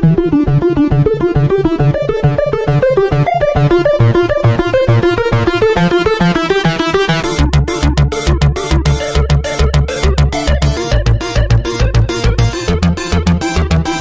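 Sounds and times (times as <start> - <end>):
fast synthesizer notes: 0.0 - 14.0.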